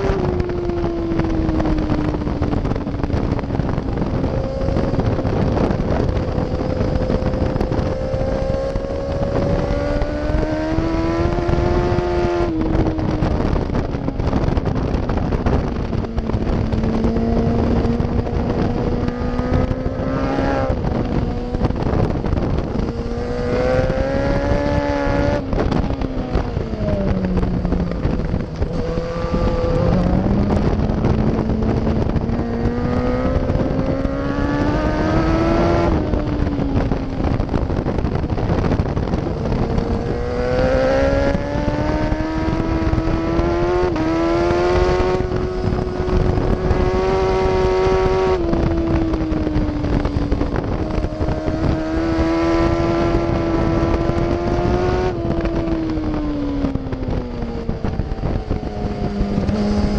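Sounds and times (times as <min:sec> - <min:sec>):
motorcycle engine revving: 0:00.0 - 0:59.9
wind buffeting microphone: 0:00.0 - 0:59.9.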